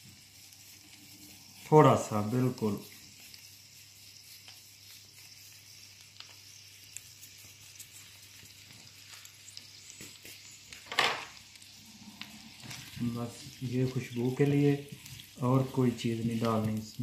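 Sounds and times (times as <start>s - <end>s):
butter sizzling in a frying pan: 0.0s - 17.0s.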